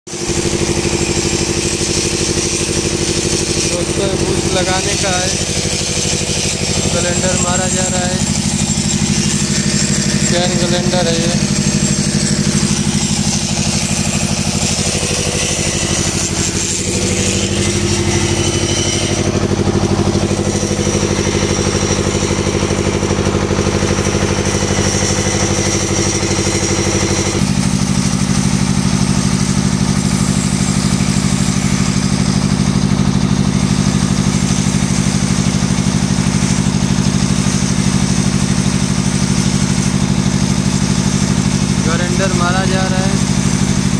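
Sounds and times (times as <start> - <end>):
electric grinder grinding steel: 0.1 - 43.9
engine drone: 0.1 - 43.9.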